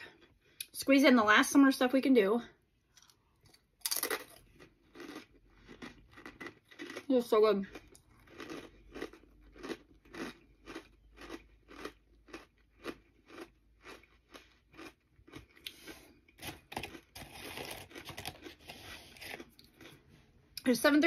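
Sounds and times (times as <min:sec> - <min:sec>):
chewing crunchy chips: 0:02.9 - 0:20.1.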